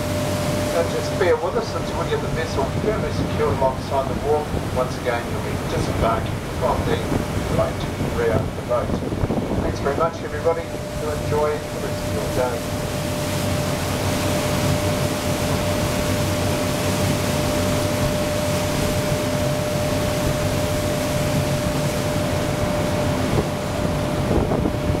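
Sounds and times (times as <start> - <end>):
boat engines running: 0.0 - 25.0
water noise: 0.0 - 25.0
wind: 0.0 - 25.0.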